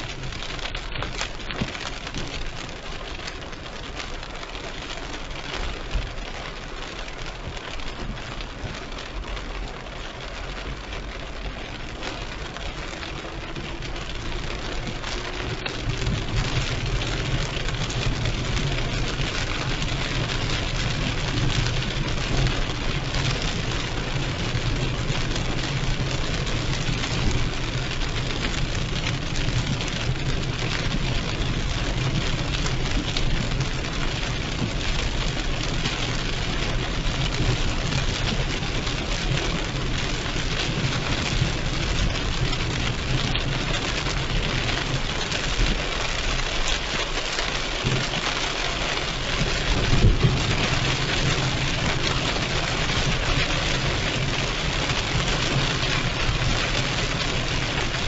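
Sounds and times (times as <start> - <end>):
heavy rain on a car: 0.0 - 58.0.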